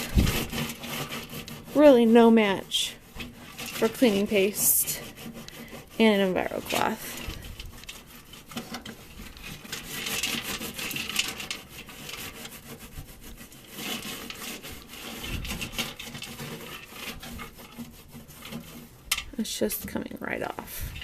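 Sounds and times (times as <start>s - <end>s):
cloth scrubbing: 0.0s - 20.9s.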